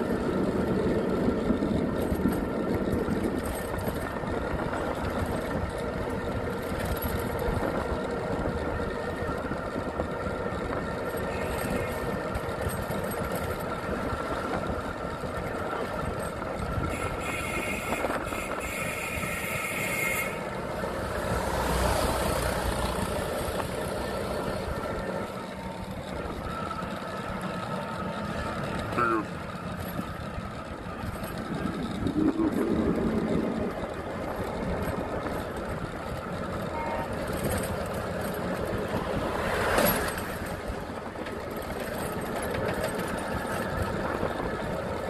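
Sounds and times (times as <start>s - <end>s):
vehicle engine and road noise: 0.0s - 45.0s.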